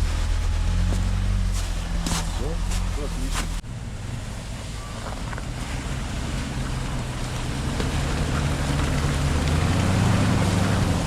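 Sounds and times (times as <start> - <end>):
car engine humming: 0.0 - 11.0
constant rushing noise: 0.0 - 11.0.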